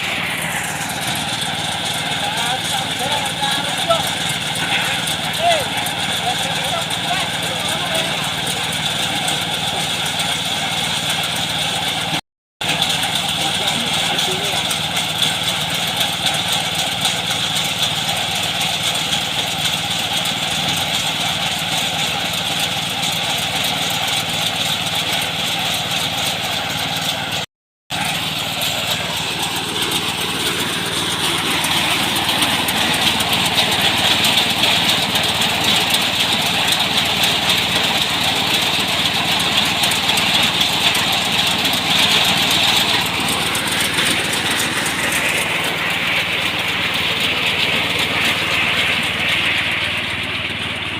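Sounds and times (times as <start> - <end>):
threshing machine engine running: 0.0 - 50.9.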